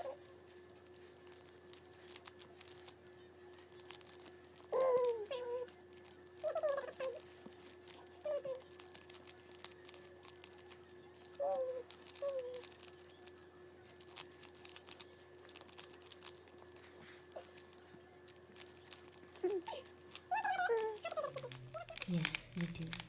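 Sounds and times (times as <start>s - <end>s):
puzzle cube plastic clicks: 0.0s - 23.0s.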